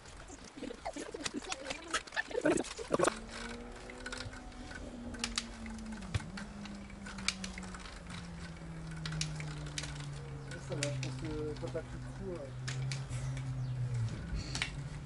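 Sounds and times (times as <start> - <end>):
low hum falling in pitch: 2.5 - 15.0.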